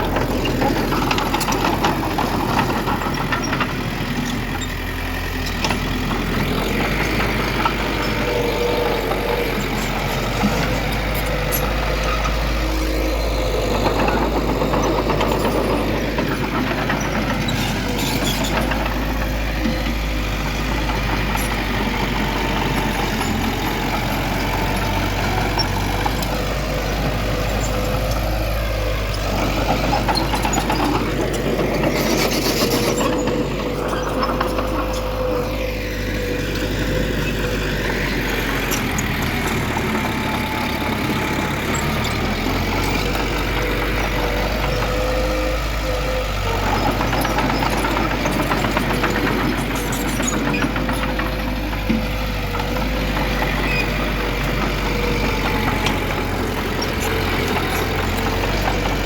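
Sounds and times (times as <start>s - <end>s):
heavy diesel engine running: 0.0s - 59.0s
machinery clanks: 0.0s - 59.0s.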